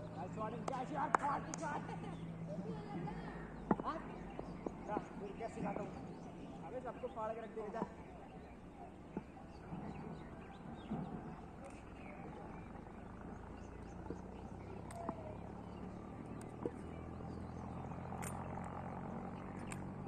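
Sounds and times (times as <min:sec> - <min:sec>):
faint distant voices: 0:00.0 - 0:20.0
low hum: 0:00.0 - 0:20.0.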